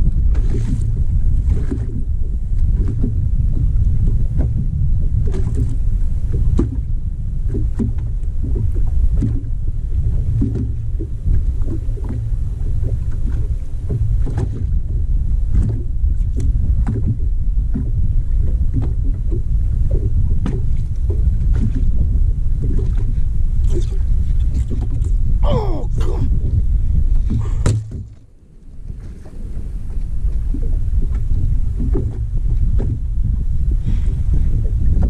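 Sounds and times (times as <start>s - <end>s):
waves slapping boat hull: 0.0s - 35.0s
wind buffeting microphone: 0.0s - 35.0s.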